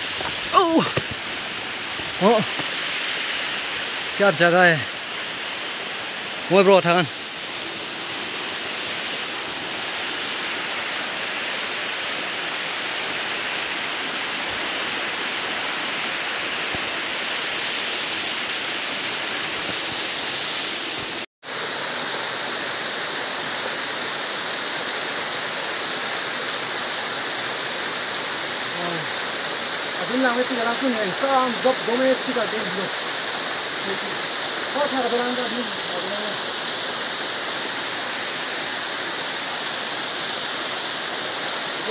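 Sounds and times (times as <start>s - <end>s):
waterfall splashing over rocks: 0.0s - 41.9s.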